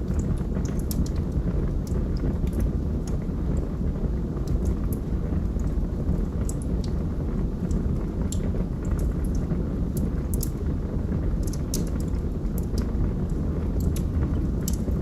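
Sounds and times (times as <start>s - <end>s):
fire burning in fireplace: 0.0s - 15.0s
fire crackles and pops: 0.0s - 15.0s.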